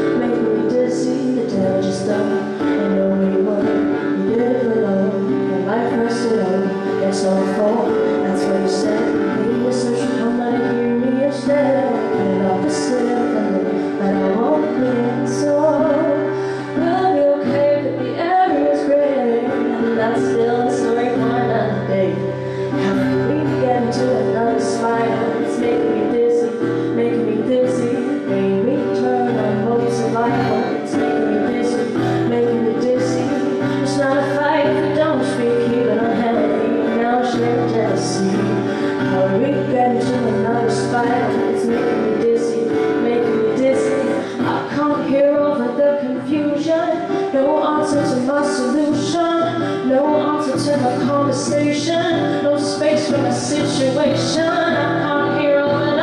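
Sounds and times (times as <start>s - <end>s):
acoustic guitar: 0.0s - 56.0s
woman singing: 0.0s - 56.0s.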